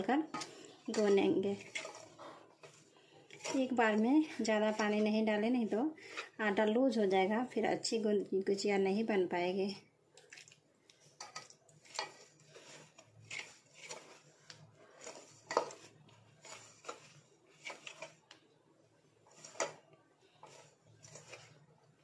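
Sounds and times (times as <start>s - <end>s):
hand kneading dough in metal bowl: 0.0s - 7.4s, 10.2s - 22.0s.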